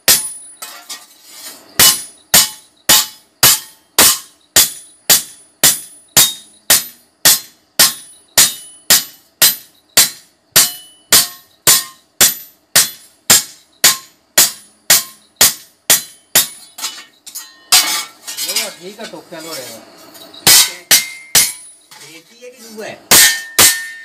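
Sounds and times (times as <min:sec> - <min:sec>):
hammer striking blade on anvil: 0:00.0 - 0:01.1, 0:01.8 - 0:18.7, 0:20.2 - 0:22.1, 0:23.1 - 0:24.0.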